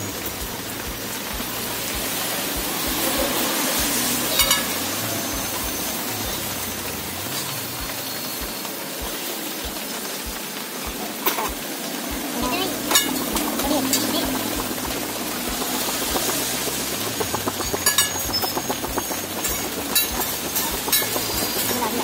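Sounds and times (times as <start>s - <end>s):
skewers sizzling over charcoal: 0.0s - 22.0s.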